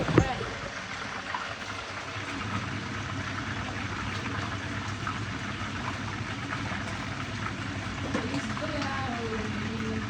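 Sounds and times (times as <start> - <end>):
fish sizzling in hot oil: 0.2 - 10.0.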